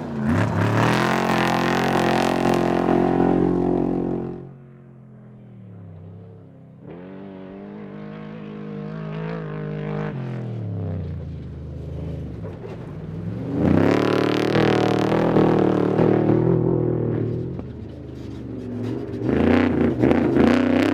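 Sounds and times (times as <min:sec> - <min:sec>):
truck engine at speed: 0:00.0 - 0:20.9.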